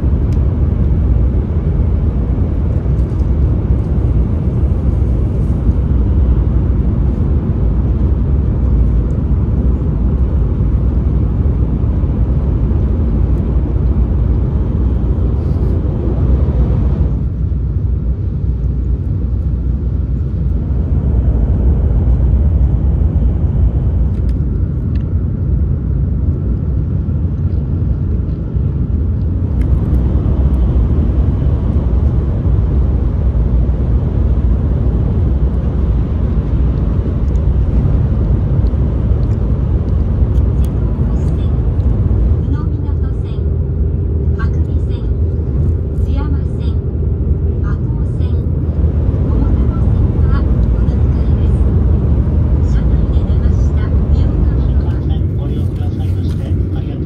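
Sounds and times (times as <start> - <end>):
train cabin low rumble: 0.0 - 57.0.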